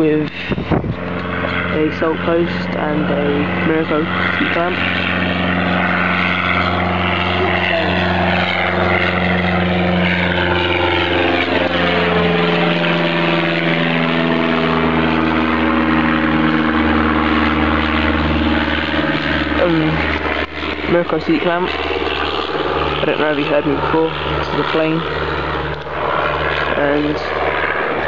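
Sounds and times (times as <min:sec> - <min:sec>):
low-flying plane engine drone: 0:00.0 - 0:28.0.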